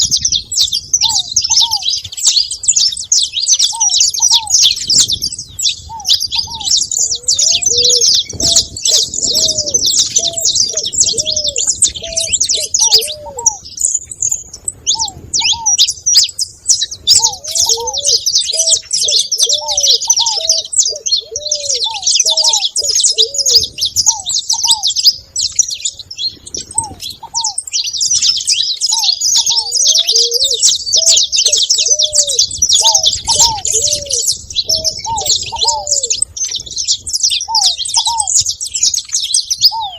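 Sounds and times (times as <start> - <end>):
doves cooing: 0.0 - 39.9
finches chirping and chattering: 0.0 - 39.9.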